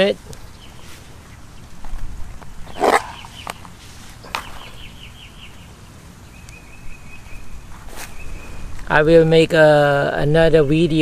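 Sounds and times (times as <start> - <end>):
bird chirping: 0.0 - 8.9.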